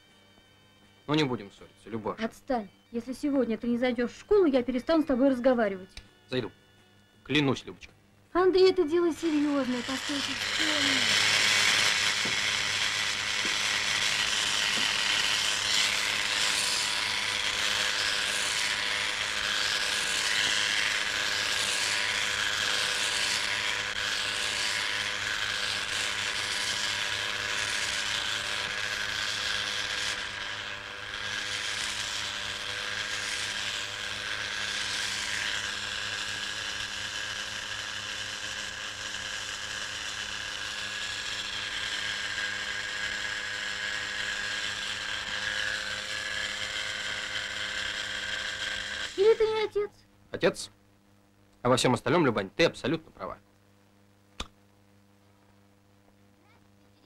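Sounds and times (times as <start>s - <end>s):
electric razor buzzing: 0.0s - 7.8s, 8.4s - 49.9s.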